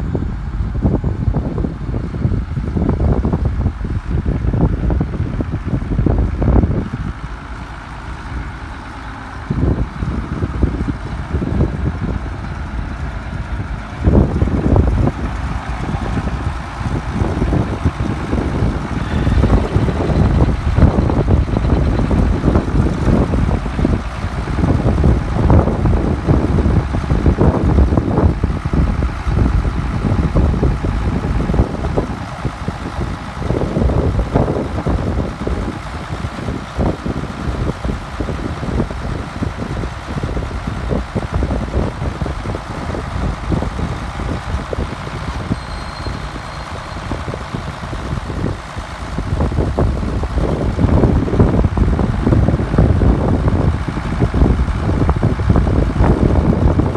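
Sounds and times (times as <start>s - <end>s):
tractor engine idling: 0.0s - 56.9s
wind gusts on microphone: 0.0s - 56.9s.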